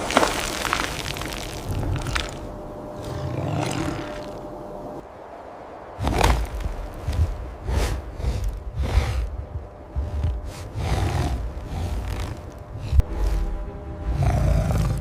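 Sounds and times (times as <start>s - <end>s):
deep low rumble: 0.7s - 5.0s, 5.8s - 15.0s.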